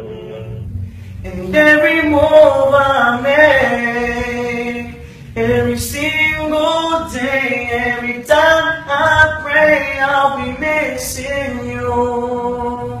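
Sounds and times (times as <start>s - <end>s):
man singing slow song: 0.0s - 13.0s.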